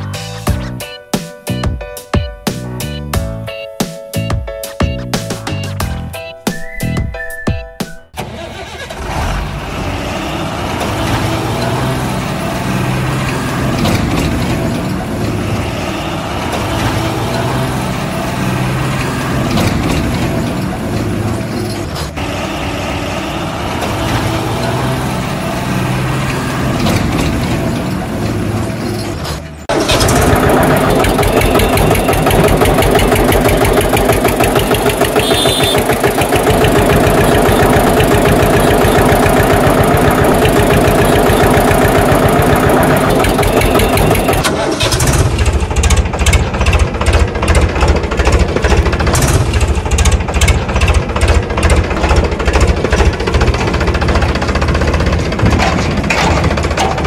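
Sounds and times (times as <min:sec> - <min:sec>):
heavy vehicle engine running: 0:08.2 - 0:57.0
tractor engine chugging: 0:08.2 - 0:57.0.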